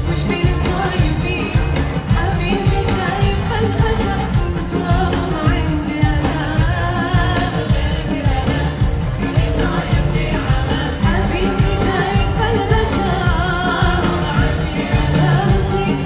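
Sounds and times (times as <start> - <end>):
live pop music: 0.0 - 16.0
person singing: 0.0 - 16.0.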